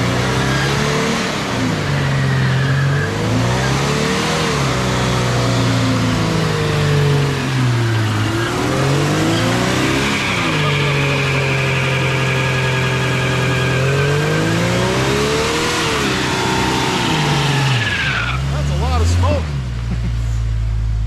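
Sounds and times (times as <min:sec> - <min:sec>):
car engine revving hard: 0:00.0 - 0:20.2.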